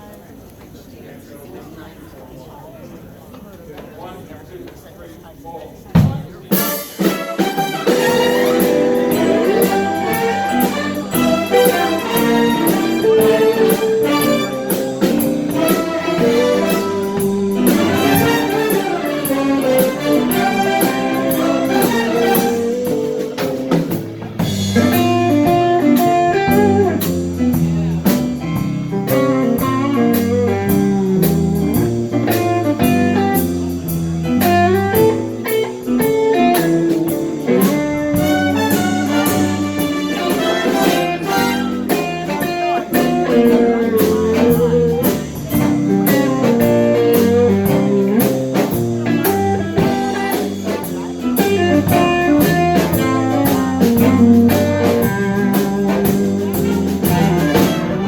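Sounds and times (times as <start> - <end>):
steady drum beat: 5.8 - 58.0
band playing upbeat tune: 5.9 - 58.0
guitar: 6.0 - 58.0.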